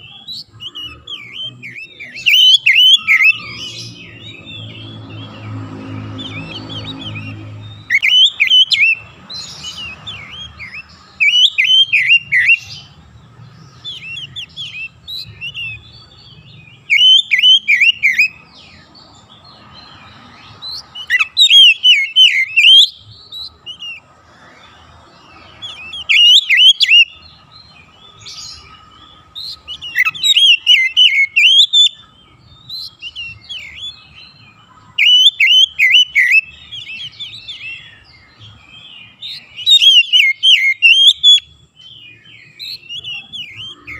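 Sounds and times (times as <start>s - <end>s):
bird singing whistled notes: 0.0s - 43.9s.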